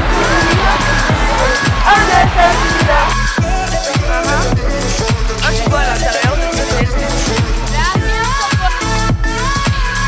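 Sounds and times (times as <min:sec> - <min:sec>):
electronic music with heavy beat: 0:00.0 - 0:10.0.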